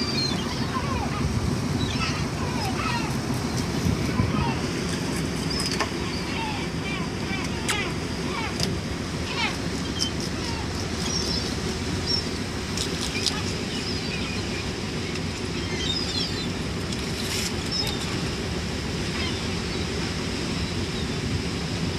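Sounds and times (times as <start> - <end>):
gulls calling: 0.0 - 21.5
boat engine running: 0.0 - 21.9
sea noise: 0.0 - 21.9.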